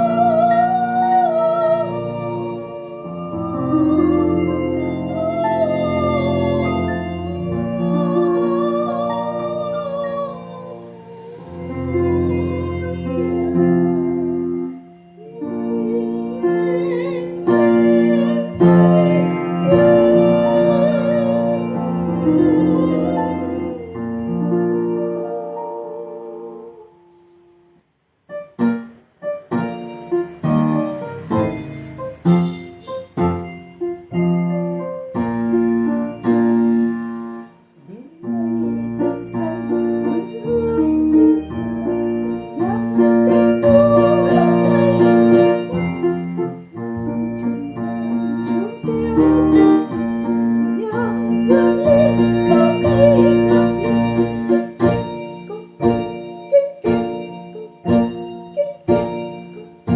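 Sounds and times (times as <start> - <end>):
electronic keyboard playing: 0.0 - 27.0, 28.3 - 59.9.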